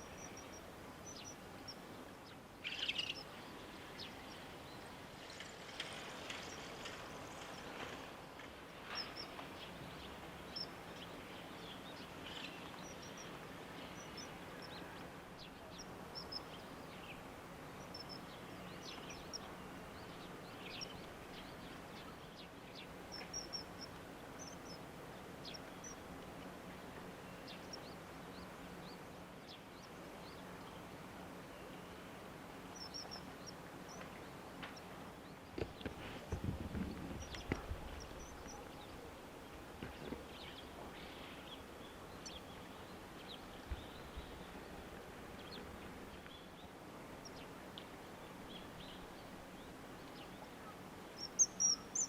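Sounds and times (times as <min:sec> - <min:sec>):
small birds chirping: 0:00.0 - 0:52.0
steady background hiss: 0:00.0 - 0:52.0.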